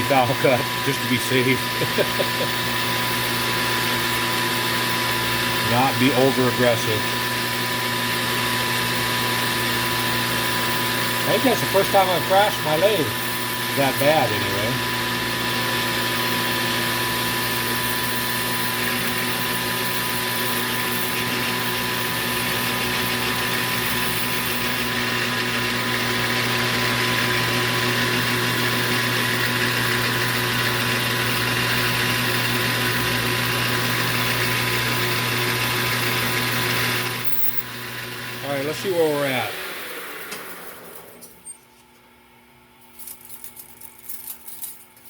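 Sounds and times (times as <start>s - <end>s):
metal lathe cutting: 0.0s - 41.4s.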